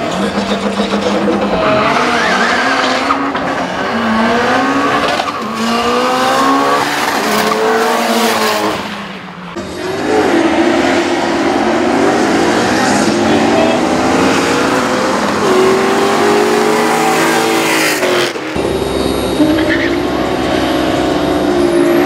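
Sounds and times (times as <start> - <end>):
drag racing cars accelerating: 0.0 - 22.0.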